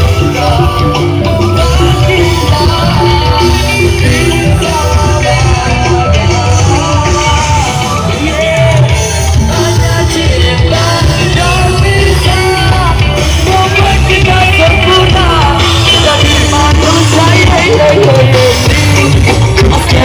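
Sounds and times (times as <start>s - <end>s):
street band playing amplified music: 0.0s - 20.0s.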